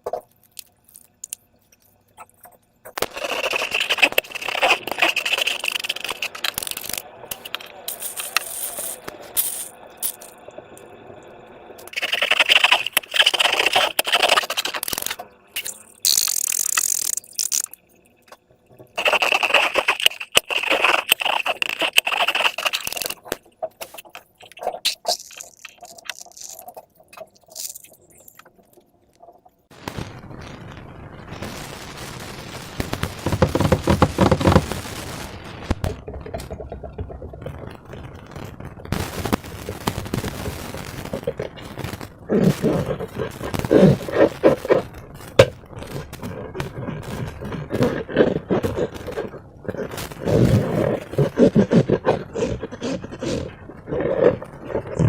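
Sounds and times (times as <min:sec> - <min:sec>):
slime crackling and squelching: 0:00.0 - 0:10.4, 0:11.8 - 0:17.9, 0:18.8 - 0:29.5, 0:32.6 - 0:55.0.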